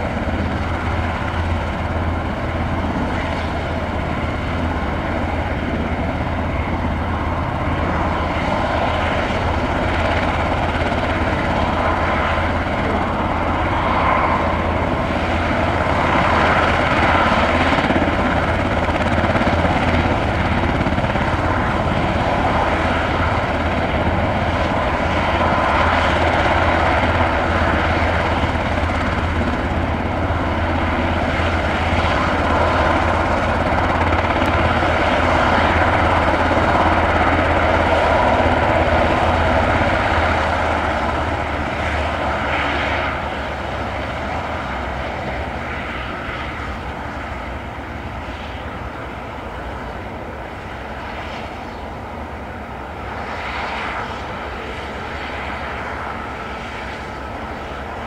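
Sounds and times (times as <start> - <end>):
helicopter turbine noise: 0.0 - 58.0.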